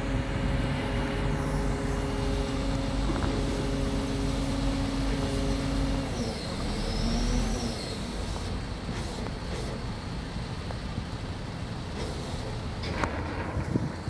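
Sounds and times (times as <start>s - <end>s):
engine humming and rumbling: 0.0s - 14.0s.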